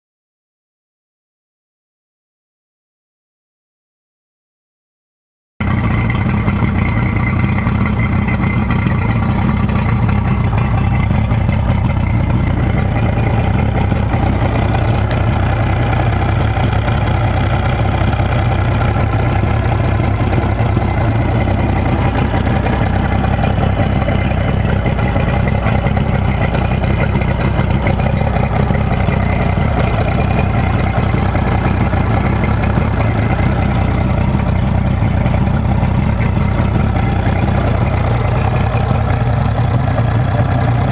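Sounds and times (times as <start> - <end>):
outboard engine idling: 5.6 - 40.9.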